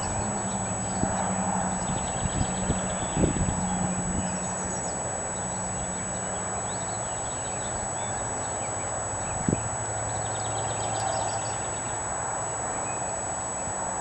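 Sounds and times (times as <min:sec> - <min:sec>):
small birds chirping: 0:00.0 - 0:12.1
low hum: 0:00.0 - 0:12.8.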